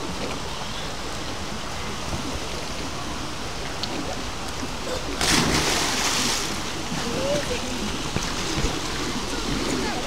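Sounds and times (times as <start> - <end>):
rushing water noise: 0.0 - 10.0.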